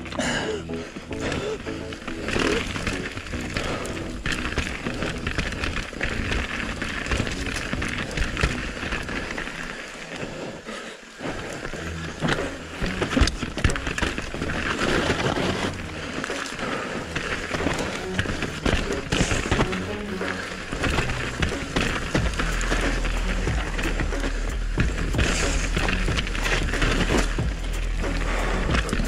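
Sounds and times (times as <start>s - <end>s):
tyres rolling over dirt and rock: 0.0s - 29.0s
bike rattling and knocking: 1.1s - 10.4s, 11.5s - 29.0s.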